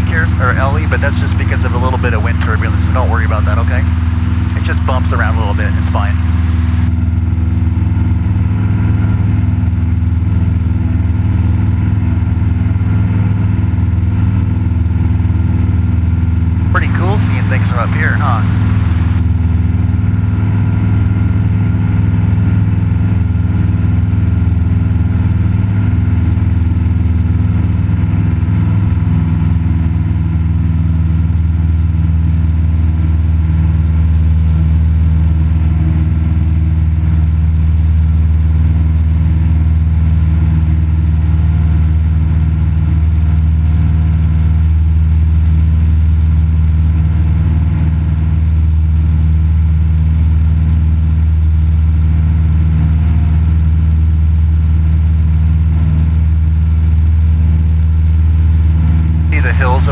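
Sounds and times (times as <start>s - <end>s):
plane engine and propeller droning: 0.0s - 59.9s.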